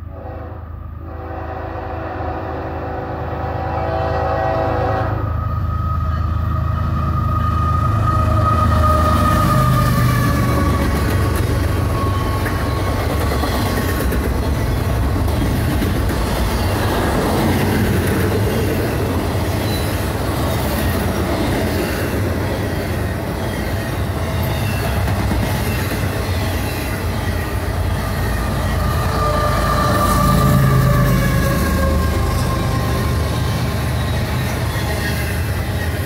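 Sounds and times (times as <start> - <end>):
freight train wheels rumbling: 0.0 - 36.0
locomotive engine: 5.3 - 36.0.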